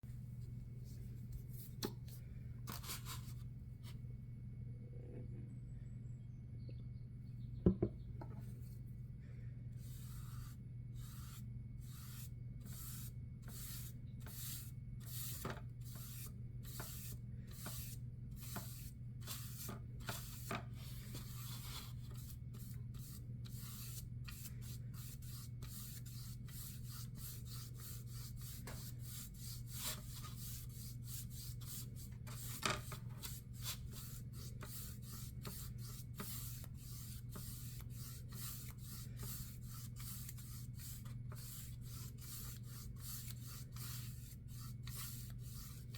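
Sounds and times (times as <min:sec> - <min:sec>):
steady low hum: 0:00.1 - 0:45.9.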